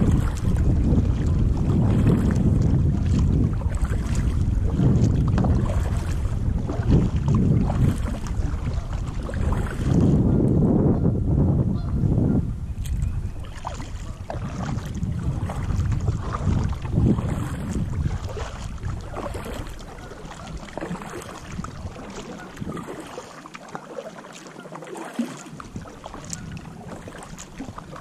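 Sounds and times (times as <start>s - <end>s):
kayak paddle splashing: 0.0s - 10.6s, 12.8s - 28.0s
wind rumbling on microphone: 0.0s - 23.3s, 25.1s - 28.0s.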